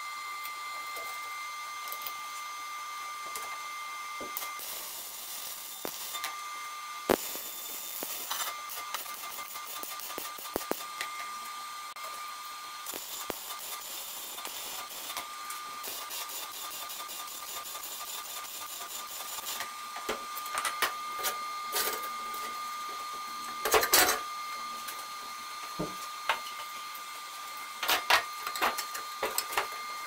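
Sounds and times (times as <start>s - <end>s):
welding arc crackling and hissing: 0.0s - 30.0s.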